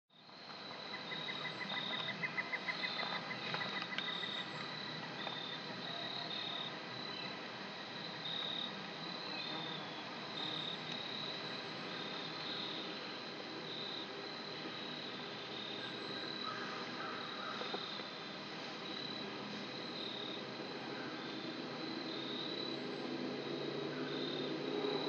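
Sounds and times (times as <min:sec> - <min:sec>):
crickets chirping: 0:00.1 - 0:25.0.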